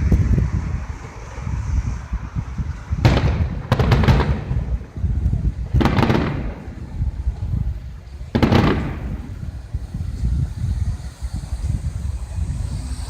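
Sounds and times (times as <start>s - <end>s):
fireworks bursting with echo: 0.0s - 13.0s
fireworks crackling: 0.0s - 13.0s
steady low rumble: 0.0s - 13.0s.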